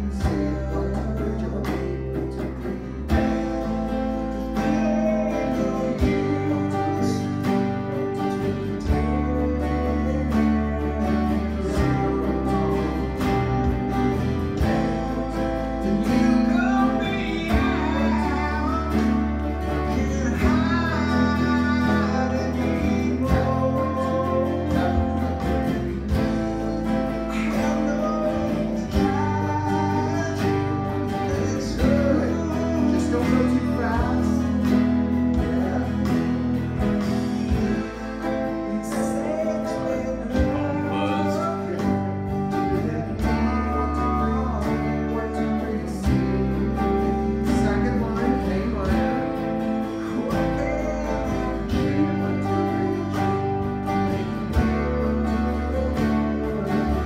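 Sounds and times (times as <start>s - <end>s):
electric guitar strummed: 0.0s - 57.0s
recorded rock song with man singing: 0.0s - 57.0s.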